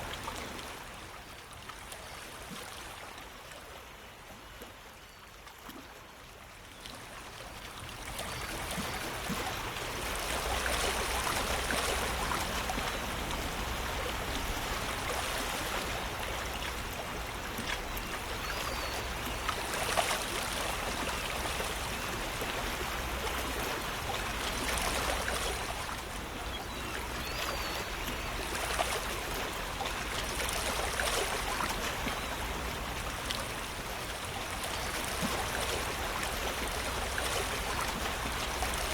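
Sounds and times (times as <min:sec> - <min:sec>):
stream flowing: 0:05.8 - 0:38.9.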